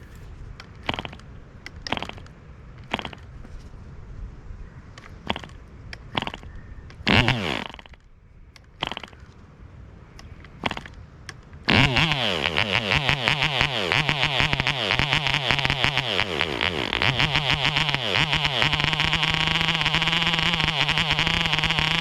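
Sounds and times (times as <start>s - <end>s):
model airplane engine popping: 0.0s - 3.6s, 5.0s - 9.4s, 10.1s - 22.0s.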